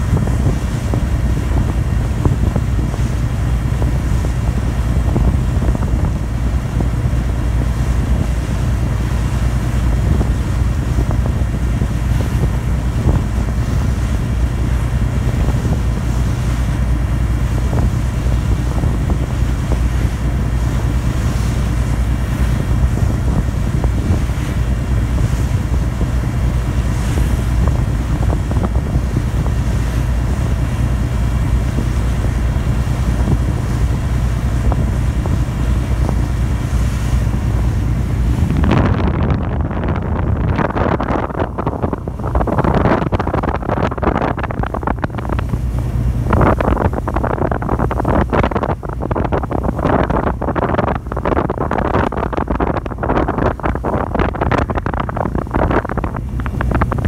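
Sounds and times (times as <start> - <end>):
wind and water rushing: 0.0 - 57.0.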